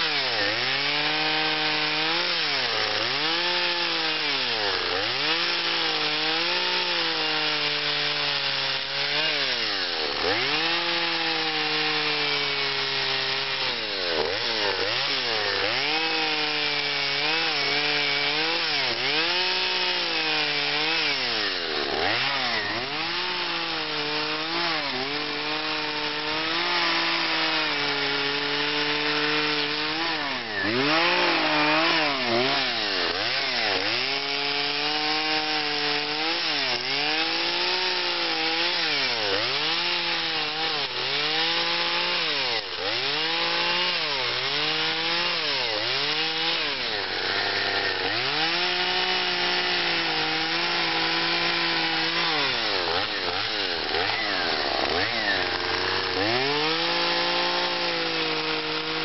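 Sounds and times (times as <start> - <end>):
chainsaw revving cutting log: 0.0 - 59.0.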